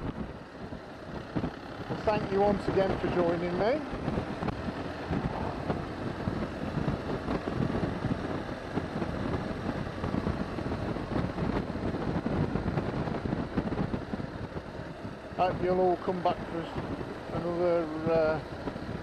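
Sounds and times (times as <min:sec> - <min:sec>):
motorcycle engine: 0:00.0 - 0:19.0
road noise: 0:00.0 - 0:19.0
wind rushing over microphone: 0:00.0 - 0:19.0.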